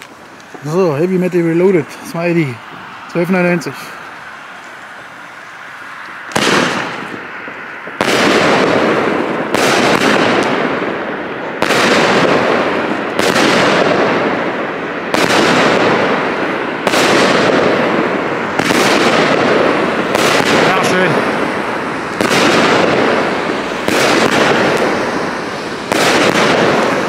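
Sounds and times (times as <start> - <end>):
firework bangs: 0.0 - 27.0.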